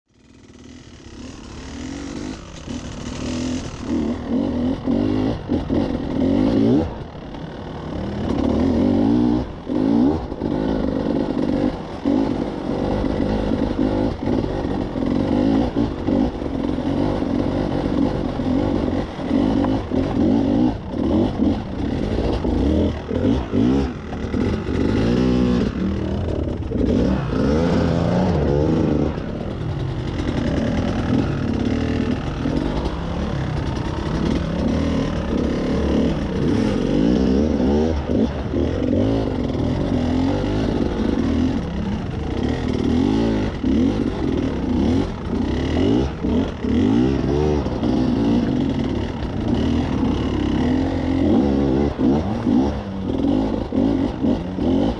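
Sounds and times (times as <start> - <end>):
dirt bike engine revving: 0.1 - 54.9.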